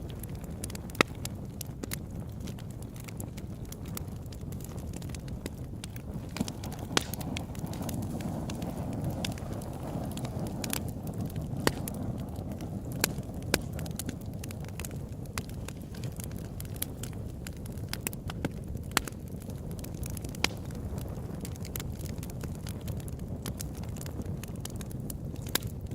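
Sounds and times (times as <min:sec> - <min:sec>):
burning wood crackling and popping: 0:00.0 - 0:25.9
campfire flames rumbling: 0:00.0 - 0:25.9.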